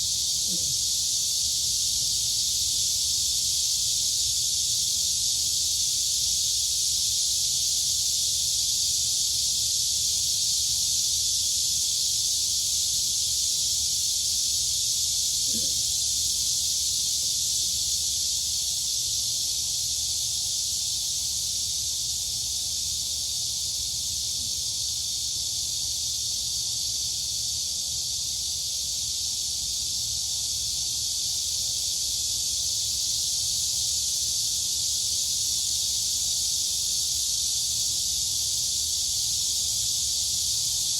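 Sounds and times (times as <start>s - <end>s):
crickets and cicadas shrilling: 0.0s - 40.9s.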